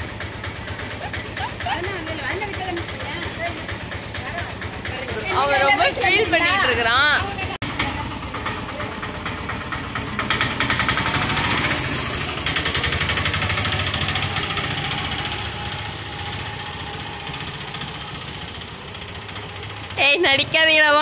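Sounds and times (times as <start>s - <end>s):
auto rickshaw engine idling: 0.0s - 21.0s
motorcycle engine idling: 0.0s - 21.0s.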